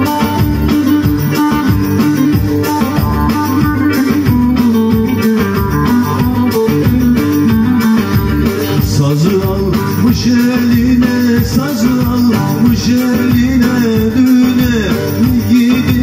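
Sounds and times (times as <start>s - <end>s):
plucked lute folk music: 0.0s - 16.0s.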